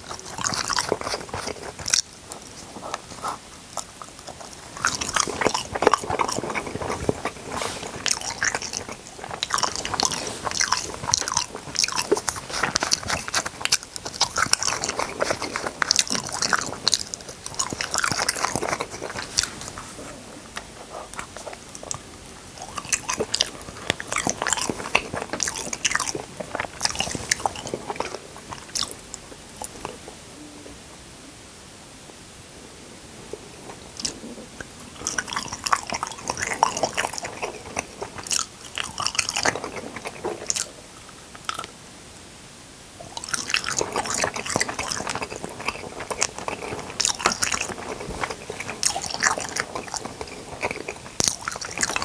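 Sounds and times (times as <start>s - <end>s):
person chewing food: 0.0s - 30.2s, 33.3s - 41.8s, 43.0s - 52.0s.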